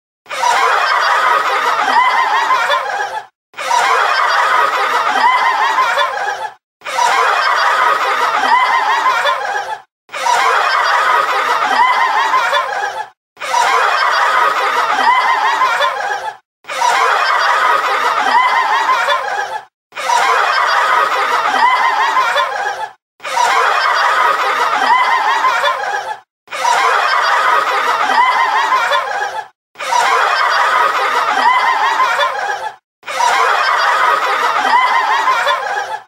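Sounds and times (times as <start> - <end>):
people laughing: 0.3 - 36.0.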